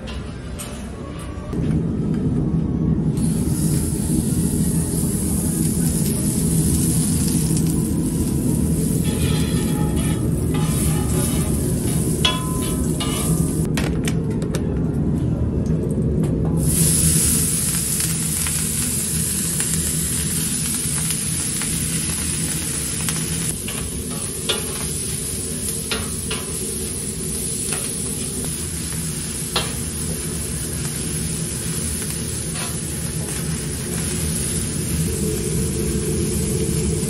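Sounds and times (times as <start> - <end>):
low hum: 0.1 - 28.9, 33.2 - 37.0
meat sizzling on a griddle: 3.2 - 13.7, 16.6 - 37.0.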